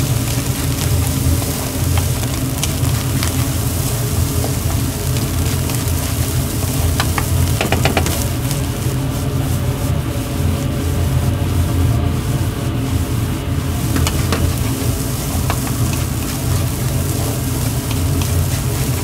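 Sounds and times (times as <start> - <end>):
fried rice sizzling in a pan: 0.0 - 19.0.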